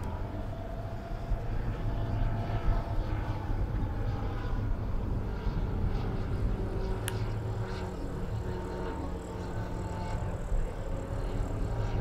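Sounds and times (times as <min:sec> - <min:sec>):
model airplane motor droning: 0:00.0 - 0:12.0.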